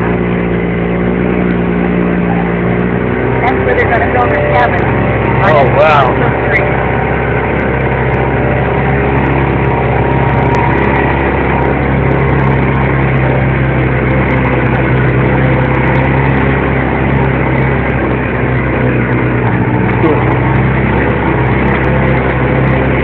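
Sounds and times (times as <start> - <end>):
car engine running while driving: 0.0 - 23.0.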